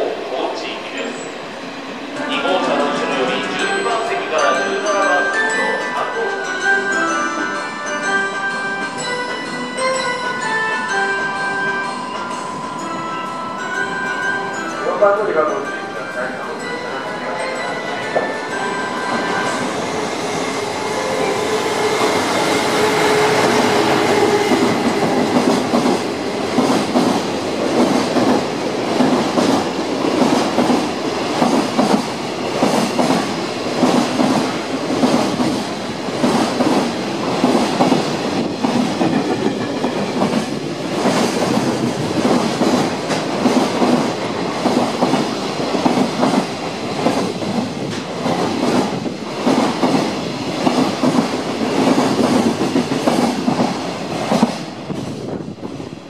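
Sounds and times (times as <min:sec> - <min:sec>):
electric locomotive whine: 0:00.0 - 0:56.0.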